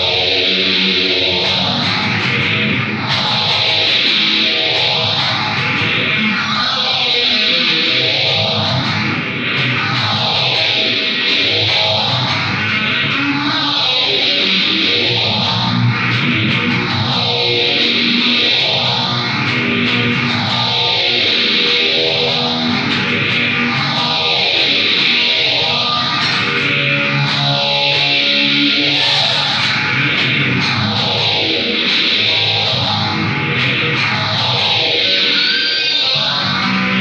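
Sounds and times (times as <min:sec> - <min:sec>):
electric guitar playing hard rock: 0:00.0 - 0:37.0.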